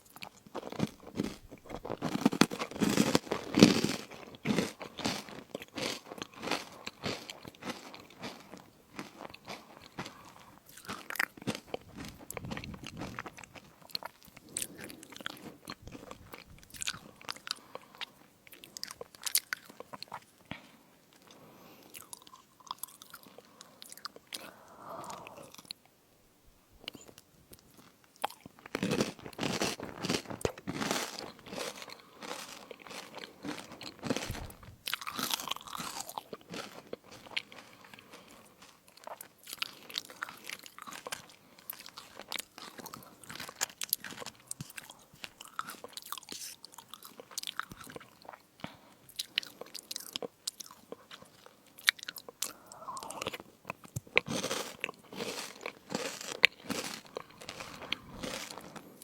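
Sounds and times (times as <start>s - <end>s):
crunching and chewing crisps: 0.0s - 25.8s, 26.8s - 59.0s.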